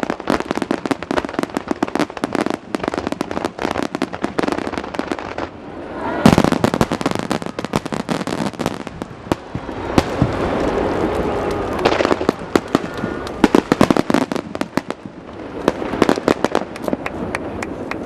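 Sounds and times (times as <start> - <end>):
fireworks popping and crackling: 0.0 - 18.0.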